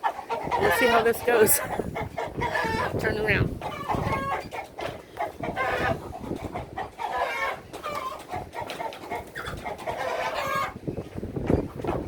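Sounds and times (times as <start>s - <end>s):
chickens clucking and squawking: 0.0s - 12.0s.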